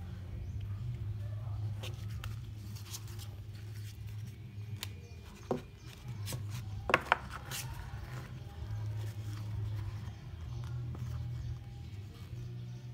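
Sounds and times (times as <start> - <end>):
paper rustling: 1.8 - 12.3.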